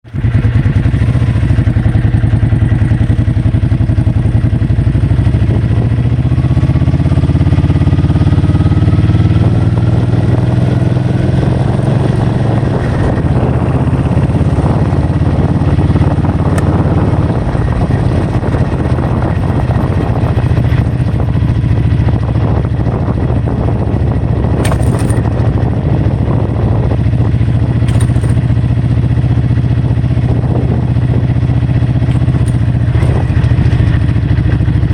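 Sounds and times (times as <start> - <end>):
heavy wind noise: 0.0 - 34.9
vehicle engine speeding up: 0.0 - 34.9.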